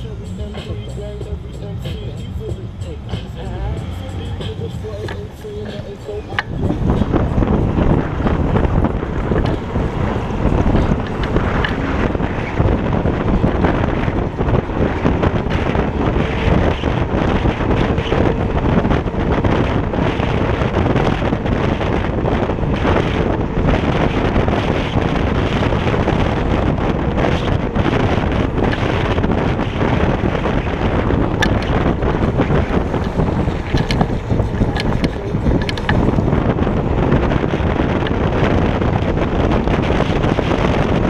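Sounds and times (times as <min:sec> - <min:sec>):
road rumble: 0:00.0 - 0:41.0
wind buffeting microphone: 0:00.0 - 0:41.0.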